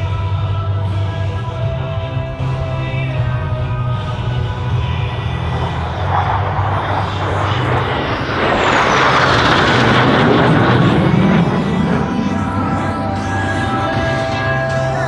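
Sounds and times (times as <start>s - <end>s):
fighter jet passing low: 0.0s - 15.0s
high jet whine falling in pitch: 0.0s - 15.0s.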